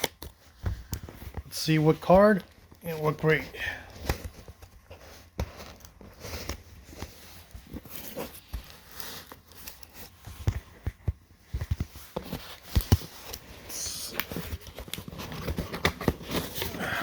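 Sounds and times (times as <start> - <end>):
wrapping rustling: 0.0 - 17.0.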